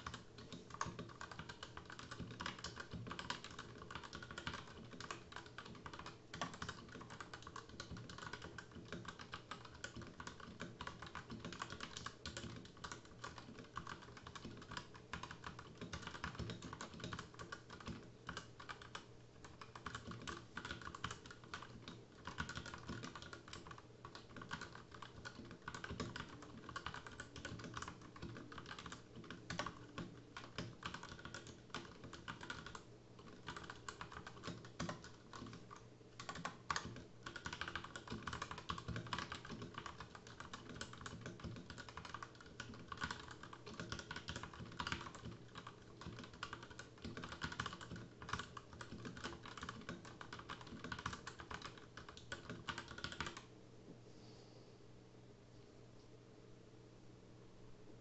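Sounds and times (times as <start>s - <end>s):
mechanical keyboard typing: 0.0s - 53.5s.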